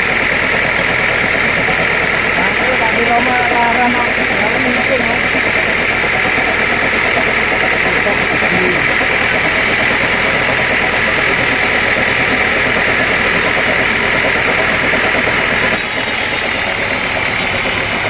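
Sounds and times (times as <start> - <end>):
high machine hum: 0.0 - 18.0
sawmill machinery drone: 0.0 - 18.0.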